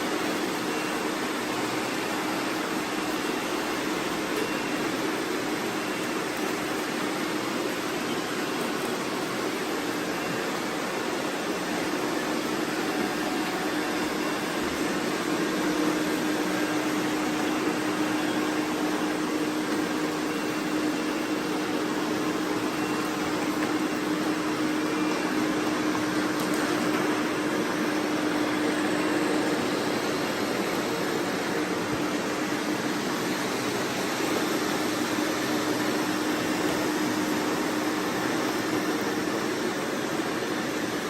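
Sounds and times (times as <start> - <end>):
robot vacuum running: 0.0 - 41.0.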